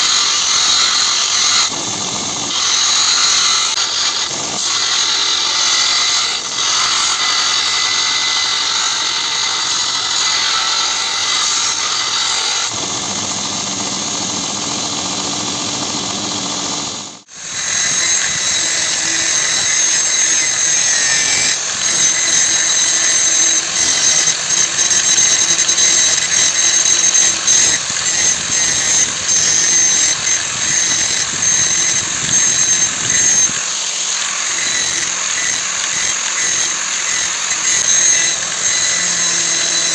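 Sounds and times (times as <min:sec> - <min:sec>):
power tool whining on steel: 0:00.0 - 0:39.9.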